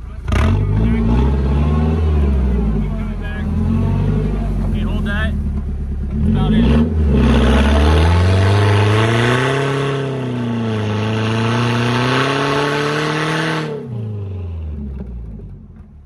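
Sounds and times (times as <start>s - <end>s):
truck engine revving hard: 0.2s - 5.4s, 6.0s - 15.1s.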